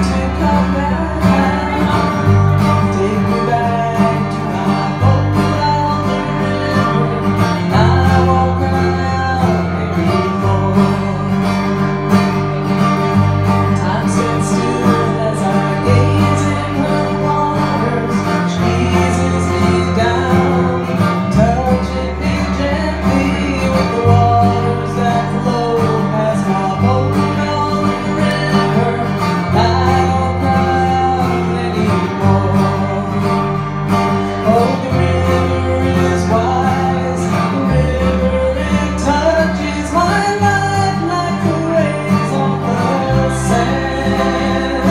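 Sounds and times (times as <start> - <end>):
country guitars playing: 0.0 - 44.9
low bass line: 0.0 - 44.9.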